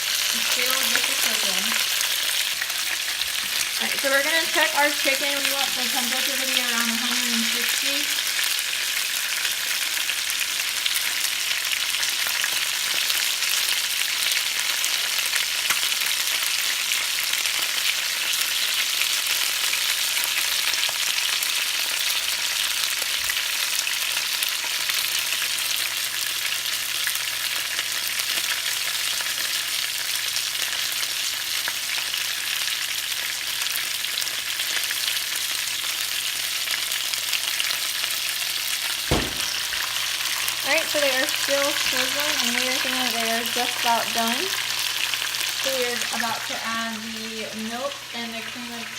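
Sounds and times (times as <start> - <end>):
chicken sizzling in a pan: 0.0 - 48.9.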